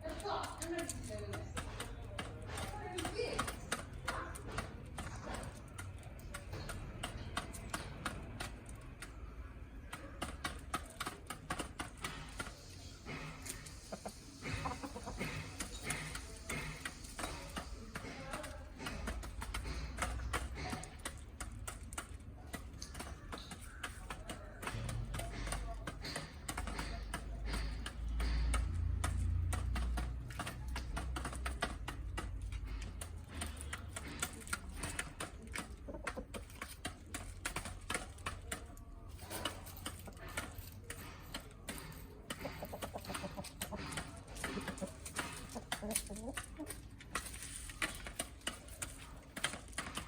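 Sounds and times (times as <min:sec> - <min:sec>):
chickens clucking: 0:00.0 - 0:50.0
chickens pecking clicks: 0:00.0 - 0:50.0.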